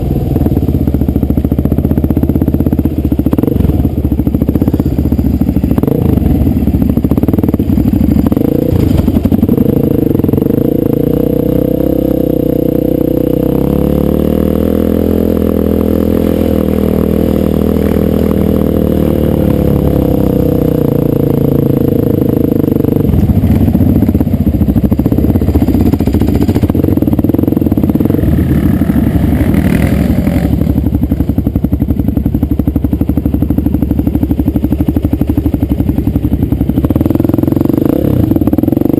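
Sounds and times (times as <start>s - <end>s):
clatter: 0.0s - 11.0s, 15.4s - 38.9s
dirt bike engine running: 0.0s - 38.9s.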